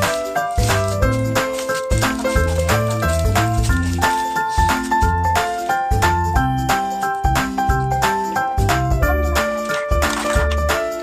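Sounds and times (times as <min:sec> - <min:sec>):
keyboard melody over deep bass: 0:00.1 - 0:11.0.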